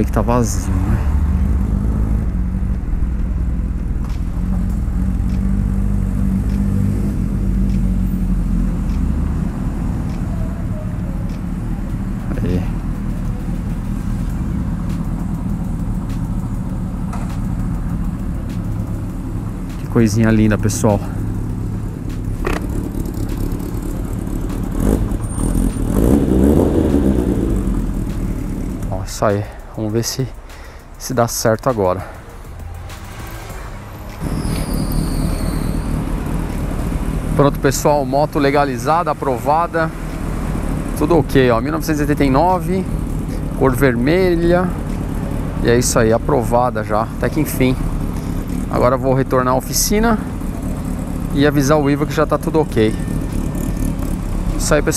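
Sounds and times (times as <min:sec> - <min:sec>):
motorcycle engine running: 0:01.3 - 0:29.3, 0:34.2 - 0:54.9.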